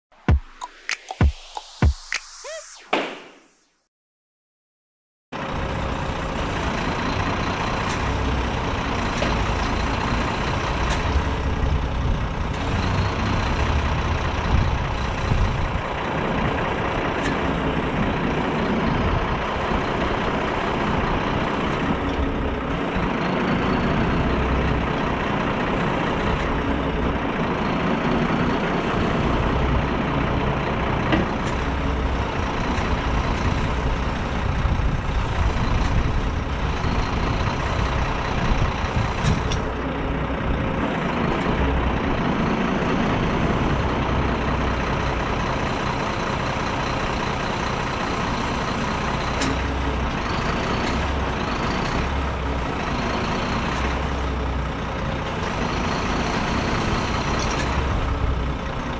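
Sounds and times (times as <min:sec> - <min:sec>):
diesel truck engine running: 0:05.4 - 0:58.9.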